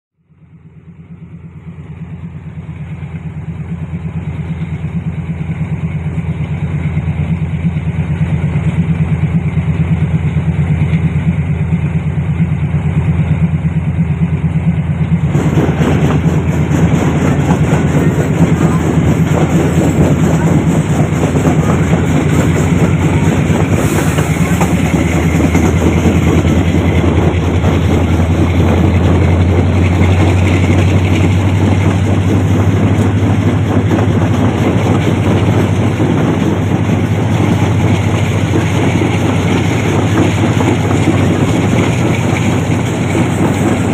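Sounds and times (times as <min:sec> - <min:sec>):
low train drone: 0:00.2 - 0:43.9
wheel and rail noise: 0:00.2 - 0:43.9.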